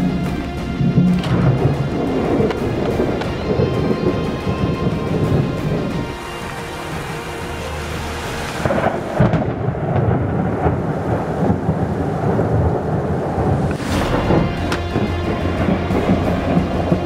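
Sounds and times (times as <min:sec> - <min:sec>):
thunder clap: 0:00.0 - 0:07.2, 0:07.9 - 0:17.0
rain: 0:00.0 - 0:17.0
thunder rumbling: 0:00.0 - 0:17.0.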